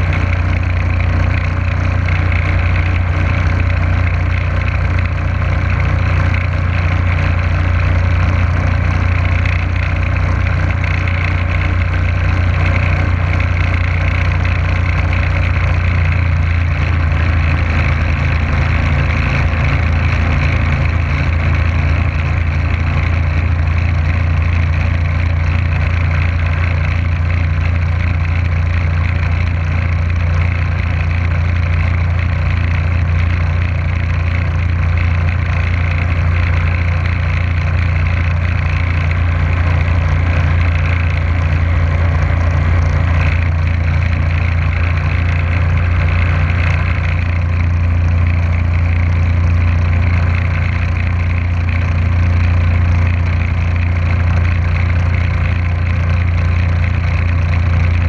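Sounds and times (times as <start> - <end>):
motorboat engine humming: 0.0 - 58.0.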